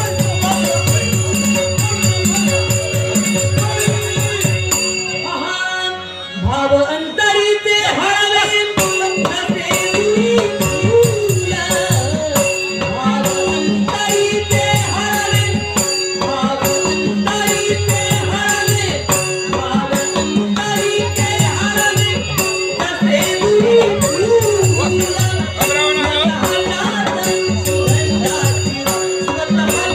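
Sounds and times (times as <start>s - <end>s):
jingling rattling percussion: 0.0s - 5.4s, 8.7s - 29.9s
person singing wavering melody: 0.0s - 29.9s.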